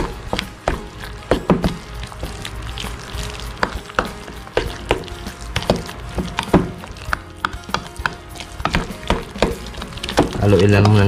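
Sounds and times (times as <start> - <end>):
mixing thick batter in metal bowl: 0.0 - 11.0.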